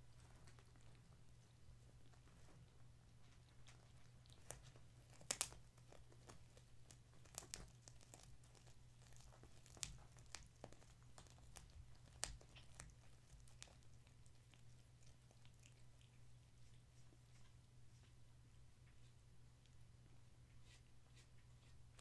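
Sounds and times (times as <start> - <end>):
kittens moving on blankets: 0.0 - 22.0.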